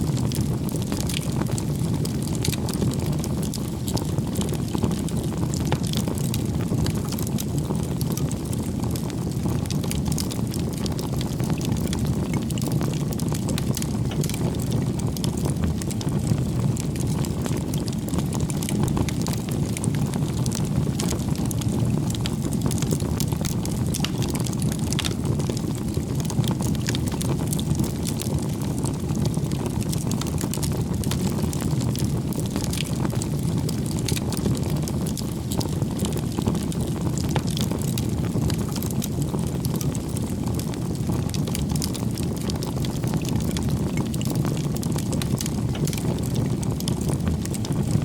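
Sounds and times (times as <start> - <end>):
bonfire flames rumbling: 0.0 - 48.0
wood crackling and popping: 0.0 - 48.0.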